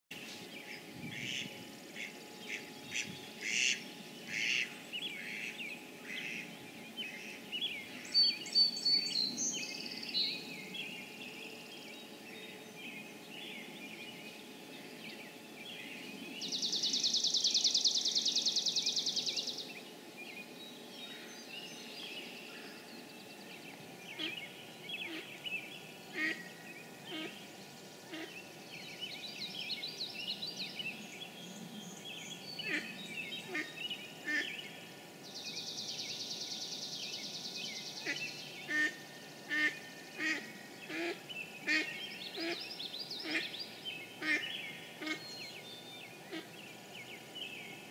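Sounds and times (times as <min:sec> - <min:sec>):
songbirds calling and singing: 0:00.1 - 0:47.9.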